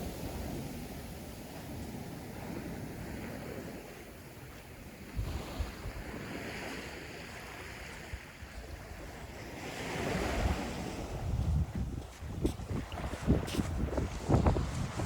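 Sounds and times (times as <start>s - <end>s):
ocean surf washing onto beach: 0.0s - 15.0s
wind rumble on microphone: 0.0s - 15.0s.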